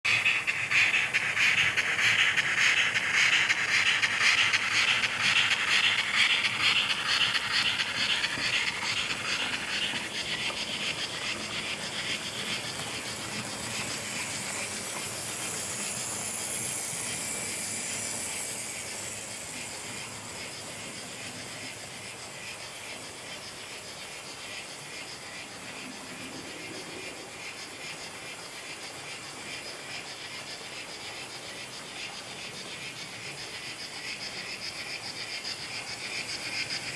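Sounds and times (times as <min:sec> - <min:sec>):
high whine of passing model train: 0:00.0 - 0:36.9
model steam locomotive hiss and rattle: 0:00.0 - 0:36.9.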